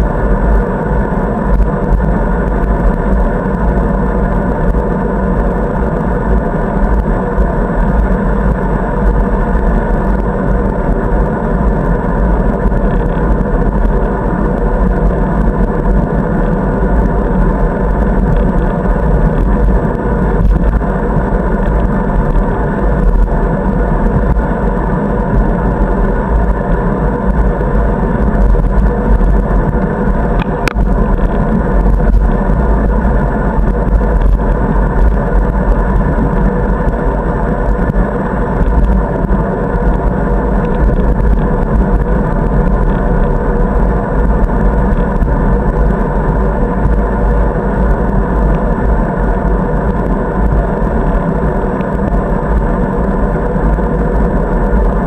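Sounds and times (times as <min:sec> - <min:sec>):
bicycle tyre rumble on asphalt: 0:00.0 - 0:55.0
wind noise: 0:00.0 - 0:55.0.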